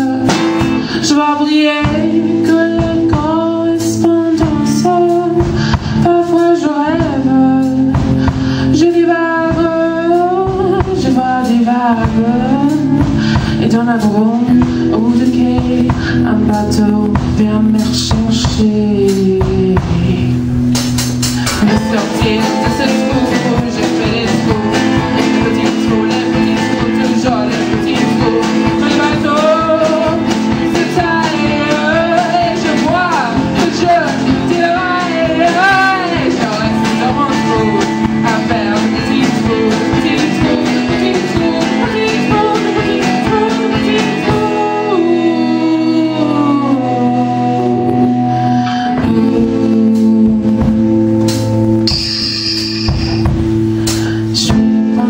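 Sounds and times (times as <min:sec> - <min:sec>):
deep bass: 0:00.0 - 0:55.0
live band playing: 0:00.0 - 0:55.0.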